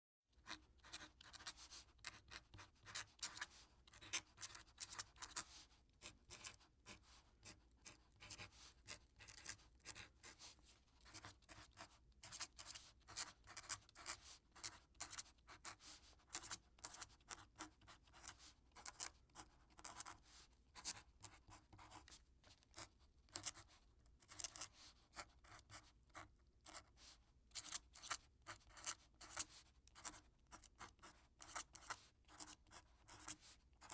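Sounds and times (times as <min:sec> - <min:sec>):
quill pen scratching on paper: 0:00.4 - 0:33.9.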